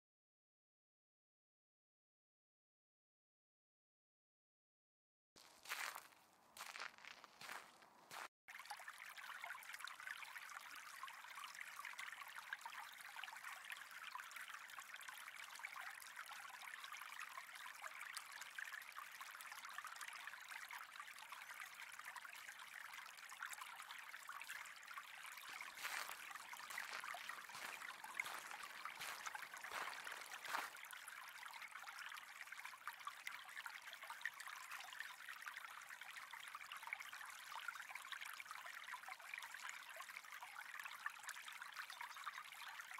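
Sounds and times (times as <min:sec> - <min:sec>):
trickle of running water: 0:05.4 - 0:42.9.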